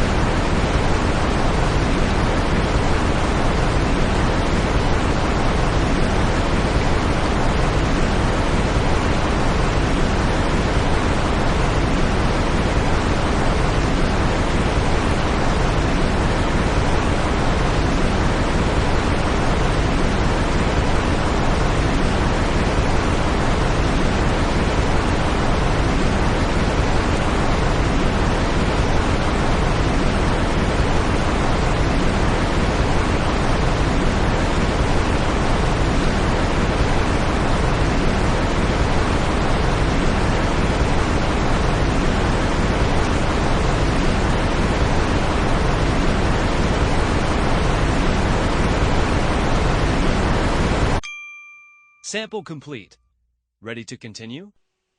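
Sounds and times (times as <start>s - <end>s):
smoothed white noise: 0.0s - 50.9s.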